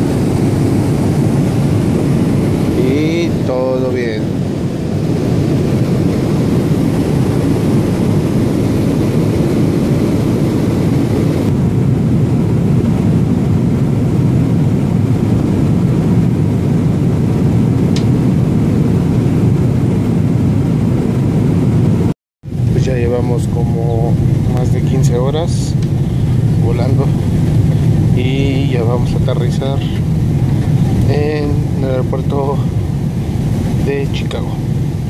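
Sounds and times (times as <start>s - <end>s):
jet airliner cabin noise: 0.0s - 35.0s.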